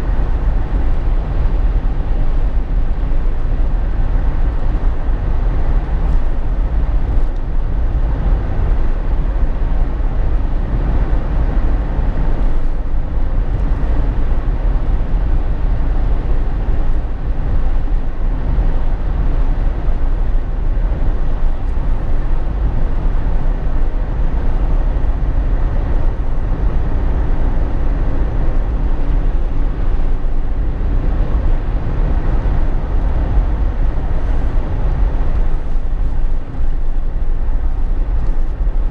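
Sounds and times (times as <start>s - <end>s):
car cabin rumble: 0.0s - 38.9s.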